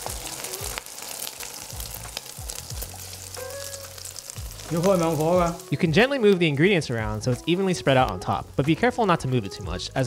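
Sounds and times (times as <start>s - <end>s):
batter sizzling in hot oil: 0.0s - 10.0s.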